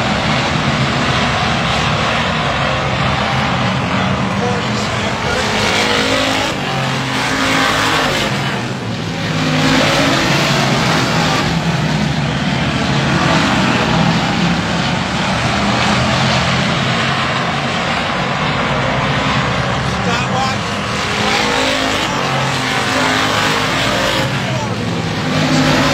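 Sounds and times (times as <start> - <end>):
race car engines passing: 0.0 - 25.9.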